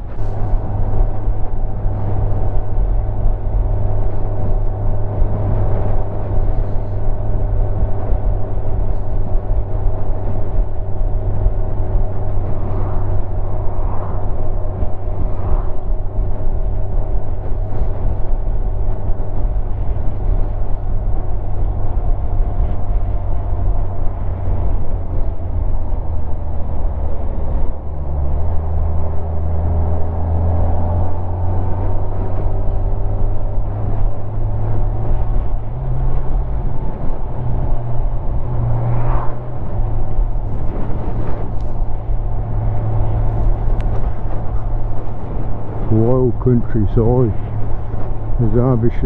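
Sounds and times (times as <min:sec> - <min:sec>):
wind and road noise: 0:00.0 - 0:49.0.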